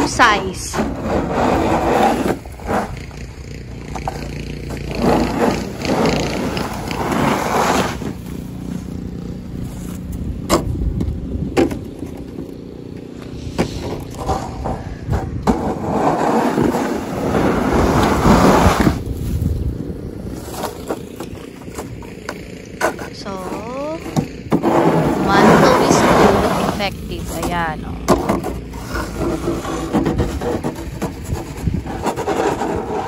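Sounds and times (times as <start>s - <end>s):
shovel scraping on pavement: 0.0s - 10.3s, 11.8s - 33.0s.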